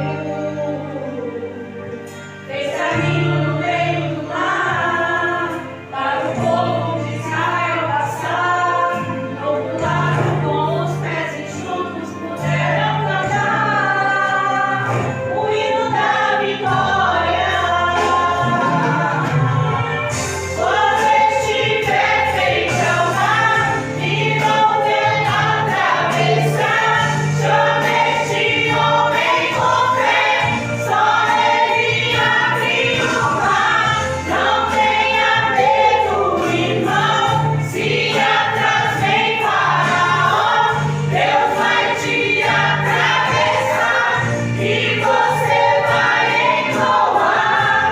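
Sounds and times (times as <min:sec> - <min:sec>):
instrumental accompaniment with bass: 0:00.0 - 0:47.9
women singing together: 0:00.0 - 0:47.9.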